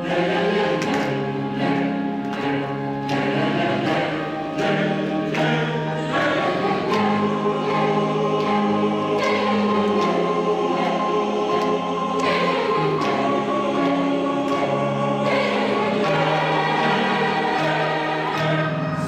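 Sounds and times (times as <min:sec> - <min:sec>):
piano accompaniment: 0:00.0 - 0:19.0
women's choir singing: 0:00.0 - 0:19.0.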